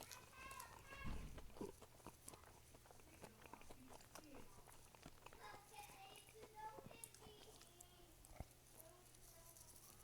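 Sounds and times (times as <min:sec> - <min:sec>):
person chewing and smacking: 0:00.0 - 0:10.0.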